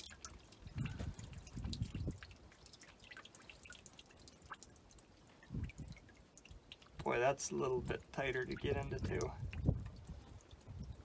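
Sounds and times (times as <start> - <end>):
fuel dripping: 0.0 - 11.0.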